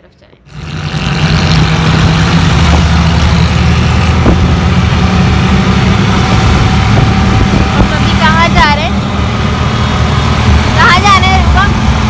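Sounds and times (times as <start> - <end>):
road noise: 0.0 - 12.0
auto-rickshaw engine running: 0.5 - 12.0.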